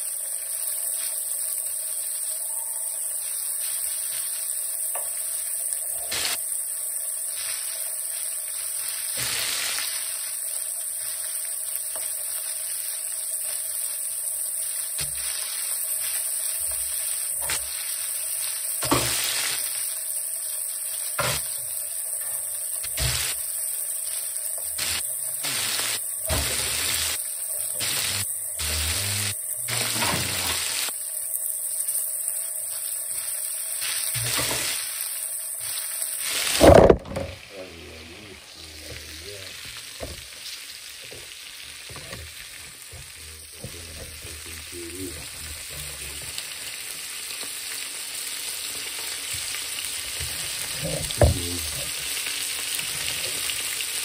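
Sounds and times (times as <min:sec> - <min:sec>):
fish frying in oil: 0:00.0 - 0:37.6, 0:38.4 - 0:54.0.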